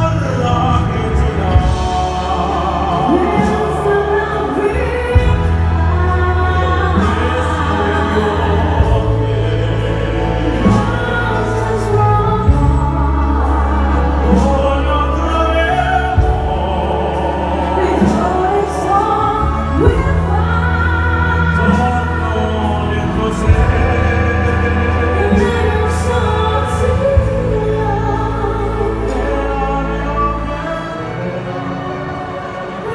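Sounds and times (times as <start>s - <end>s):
operatic singing: 0.0s - 32.9s
orchestra and big band: 0.0s - 32.9s.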